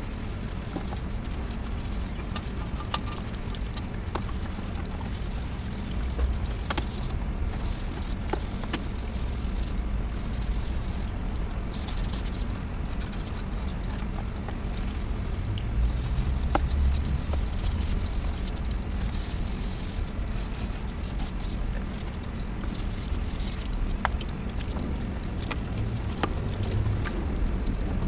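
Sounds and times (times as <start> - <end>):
steady low rumble: 0.0 - 28.0
scrubbing wet plastic panels: 0.4 - 28.0.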